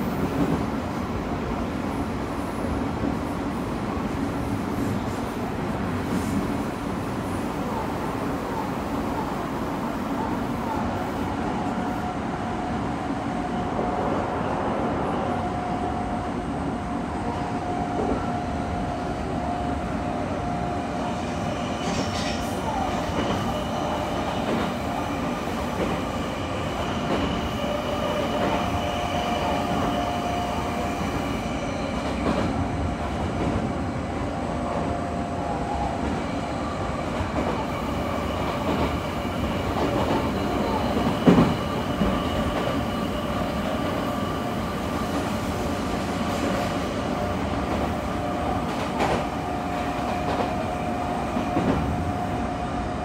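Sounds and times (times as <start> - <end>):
train wheels rumbling on rail: 0.0 - 53.0
train whine: 0.0 - 53.0.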